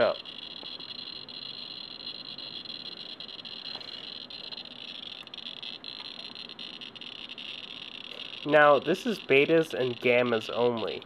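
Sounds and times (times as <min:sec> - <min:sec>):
geiger counter crackling: 0:00.0 - 0:11.0.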